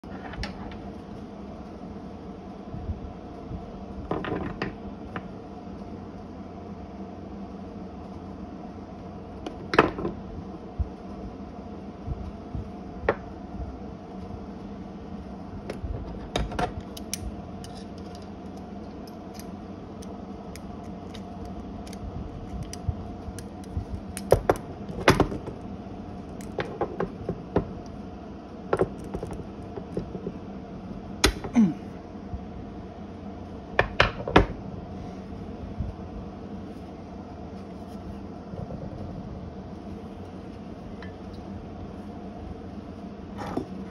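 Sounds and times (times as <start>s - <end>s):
low hum: 0.0s - 43.9s.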